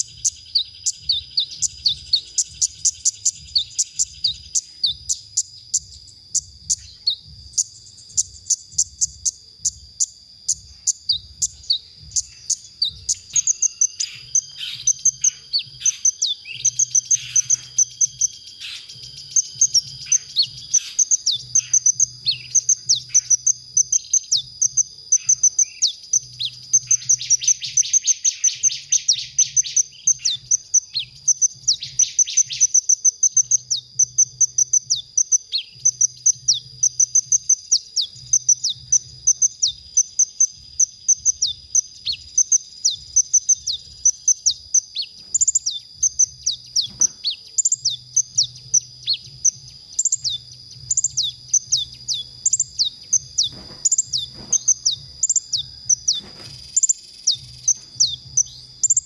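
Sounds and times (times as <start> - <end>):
bird singing high chirps: 0.0 - 59.0.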